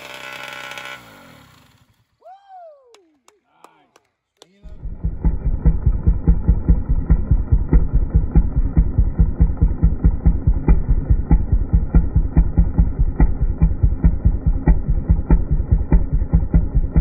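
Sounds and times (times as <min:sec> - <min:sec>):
small engine idling: 0:00.0 - 0:02.2, 0:04.7 - 0:17.0.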